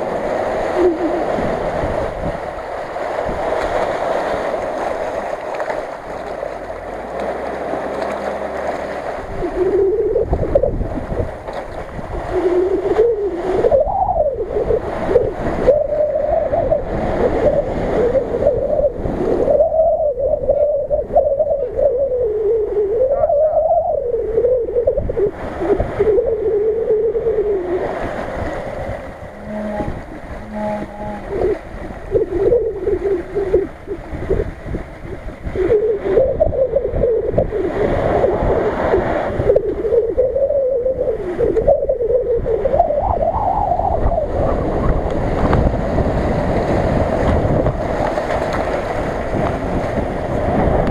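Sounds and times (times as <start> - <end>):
water splashing: 0.0 - 19.6, 24.9 - 50.9
wind rumbling on microphone: 0.0 - 50.9.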